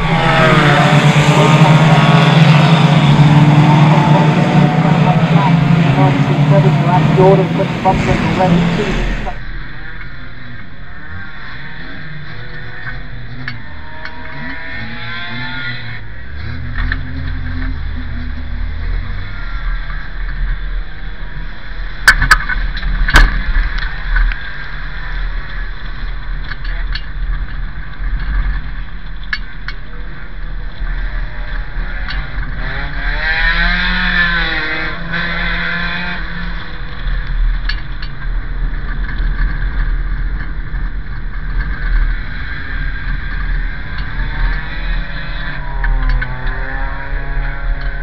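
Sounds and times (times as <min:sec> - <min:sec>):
racing car engine running hard: 0:00.0 - 0:48.0.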